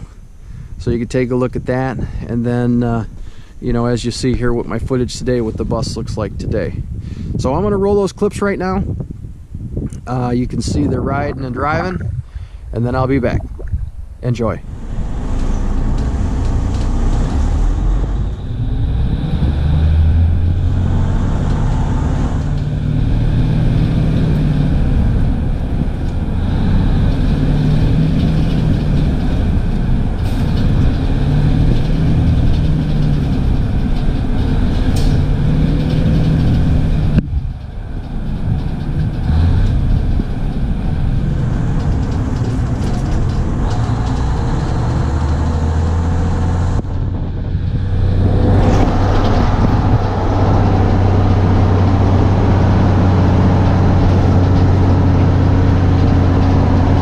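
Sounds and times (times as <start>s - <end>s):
bus engine droning: 0.0s - 7.4s, 9.1s - 57.0s
road and wind noise: 0.0s - 57.0s.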